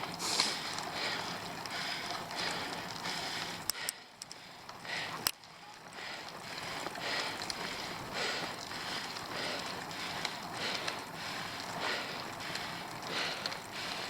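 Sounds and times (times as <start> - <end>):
hard rhythmic breathing: 0.0 - 14.0.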